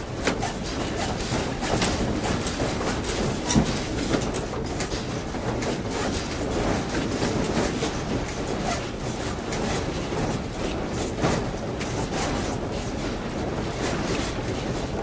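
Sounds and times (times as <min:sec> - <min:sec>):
sliding doors rattling in frames: 0:00.0 - 0:15.0.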